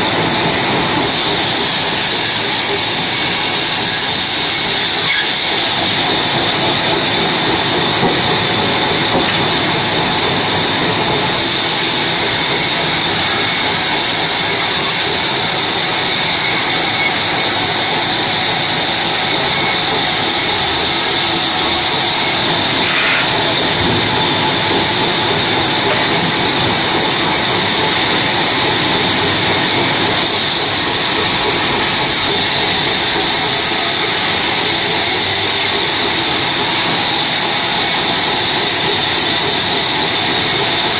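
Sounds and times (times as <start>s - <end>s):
band saw cutting a log: 0.0s - 40.9s.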